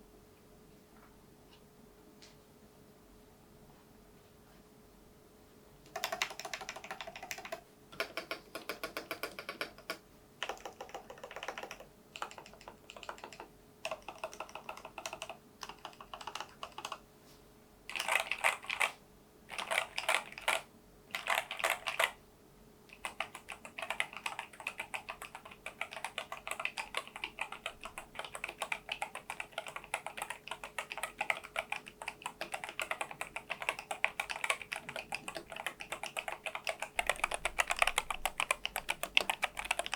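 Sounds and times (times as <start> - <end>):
rapid keyboard typing: 5.9 - 17.0, 17.9 - 22.2, 22.9 - 39.9.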